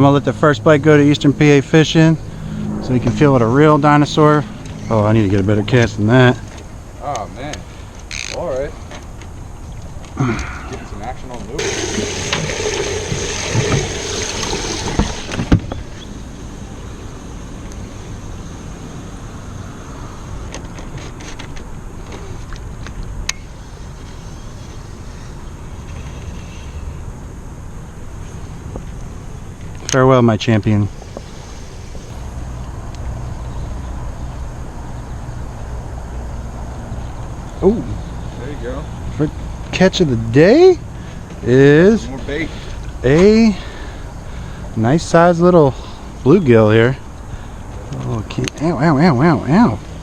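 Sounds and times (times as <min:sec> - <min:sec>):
boat engine humming: 0:00.0 - 0:50.0
outdoor rush: 0:00.0 - 0:50.0.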